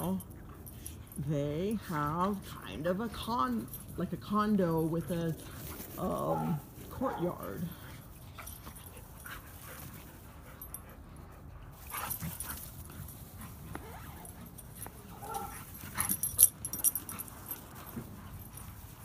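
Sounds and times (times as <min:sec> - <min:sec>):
dogs playing on grass: 0:00.0 - 0:19.0.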